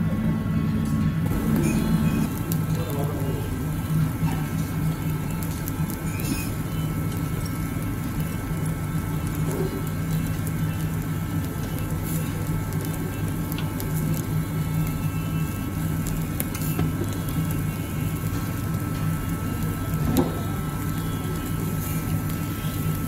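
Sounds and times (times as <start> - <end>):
ventilation hum: 0.0 - 23.0
chicken grilling pops and crackles: 1.2 - 23.0.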